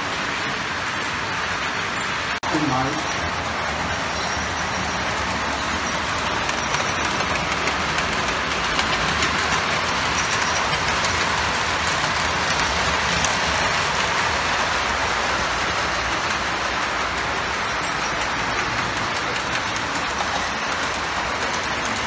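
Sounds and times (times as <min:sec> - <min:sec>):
model train wheels rattling on rails: 0:00.0 - 0:22.0.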